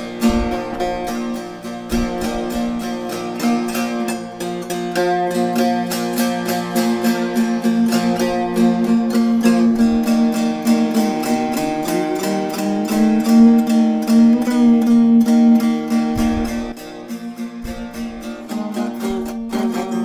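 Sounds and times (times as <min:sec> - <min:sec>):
long-necked lute played solo: 0:00.0 - 0:20.0.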